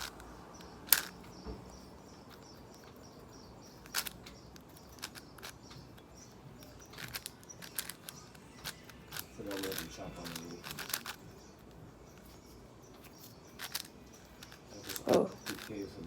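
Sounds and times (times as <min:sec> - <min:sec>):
speed cube plastic clicks: 0:00.0 - 0:01.4, 0:03.7 - 0:12.4, 0:13.0 - 0:15.8
faint high chirping: 0:00.0 - 0:16.0.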